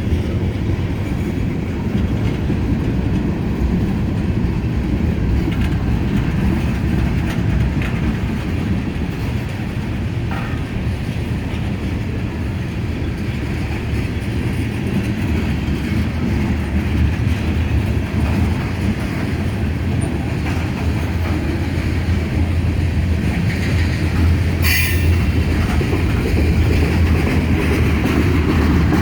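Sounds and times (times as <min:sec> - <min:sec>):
freight train rumbling past: 0:00.0 - 0:29.0
wheels clattering over rail joints: 0:00.0 - 0:29.0.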